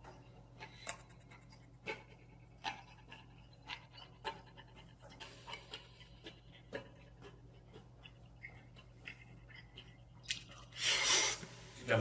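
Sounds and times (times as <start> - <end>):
person chewing with wet smacks: 0.0 - 10.9
low steady hum: 0.0 - 12.0.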